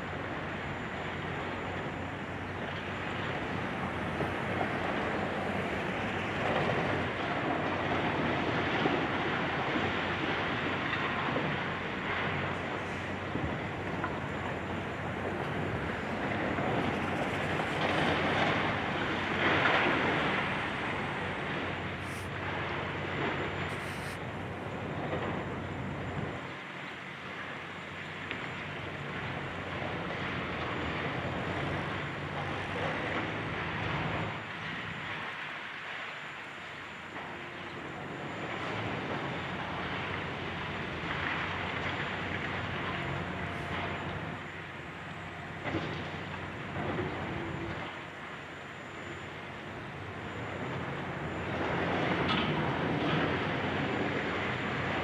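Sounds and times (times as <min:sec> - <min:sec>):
diesel engine rumbling: 0:00.0 - 0:35.5, 0:36.4 - 0:55.0.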